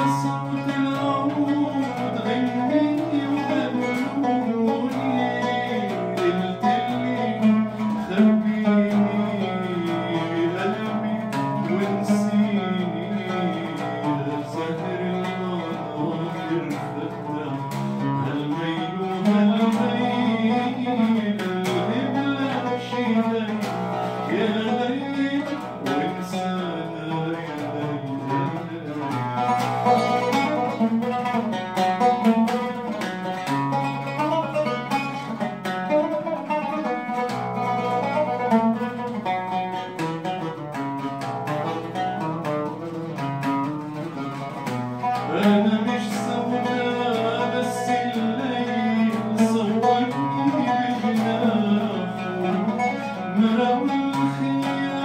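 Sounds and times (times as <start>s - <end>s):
man singing: 0.0s - 55.0s
oud plucked: 0.0s - 55.0s.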